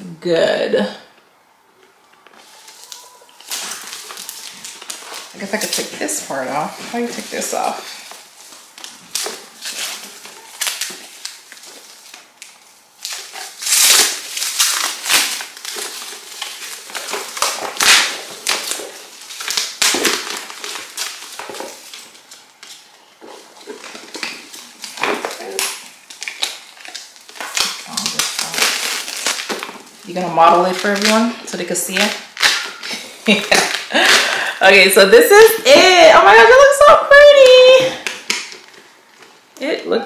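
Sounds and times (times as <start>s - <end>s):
wrapping rustling and crinkling: 1.8s - 39.7s.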